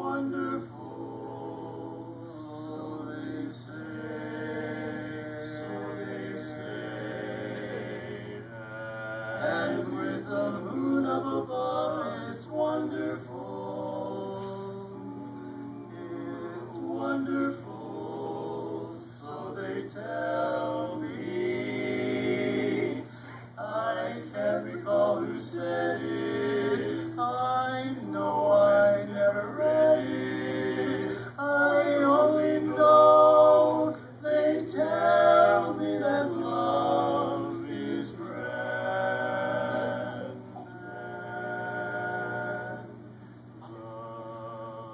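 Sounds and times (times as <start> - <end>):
male vocal quartet singing a cappella: 0.0 - 44.9.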